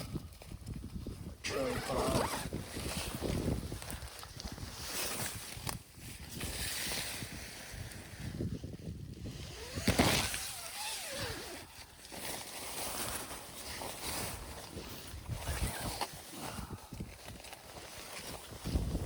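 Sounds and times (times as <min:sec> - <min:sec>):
wind on microphone: 0:00.0 - 0:11.7, 0:14.3 - 0:17.4, 0:18.4 - 0:19.0
microphone handling rustle: 0:00.0 - 0:19.0.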